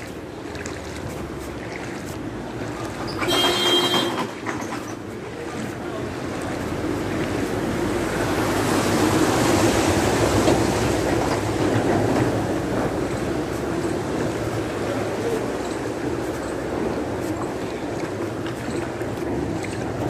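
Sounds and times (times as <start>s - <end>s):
floodwater churning and splashing: 0.0s - 20.0s.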